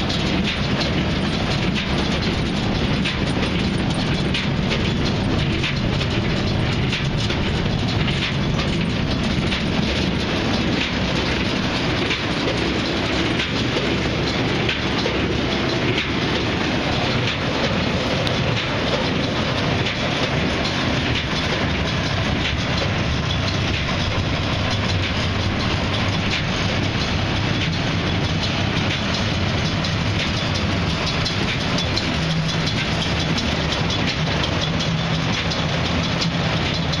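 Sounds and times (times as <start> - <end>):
baler rollers and chains clattering: 0.0 - 37.0.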